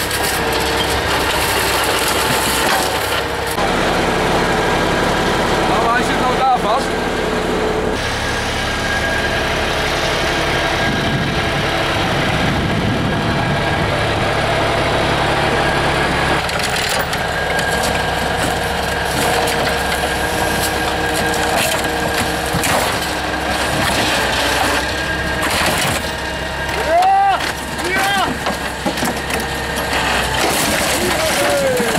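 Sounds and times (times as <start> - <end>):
diesel excavator engine running: 0.0 - 31.9.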